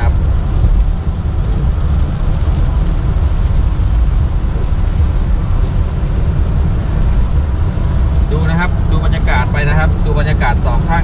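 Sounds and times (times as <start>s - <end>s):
rain hissing: 0.0s - 11.0s
tyre and road noise: 0.0s - 11.0s.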